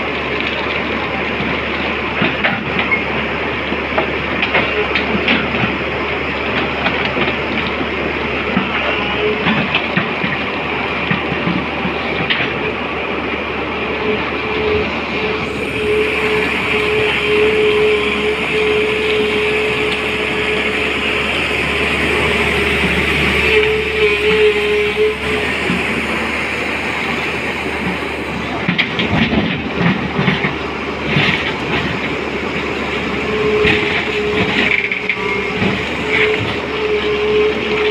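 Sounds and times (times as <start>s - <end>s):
excavator engine and hydraulics: 0.0s - 37.9s
steady whine: 2.8s - 37.9s.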